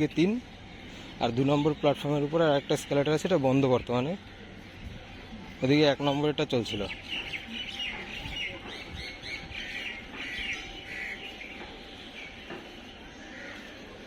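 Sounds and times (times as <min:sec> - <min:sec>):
steady background noise: 0:00.0 - 0:14.0
small birds chirping: 0:00.1 - 0:14.0.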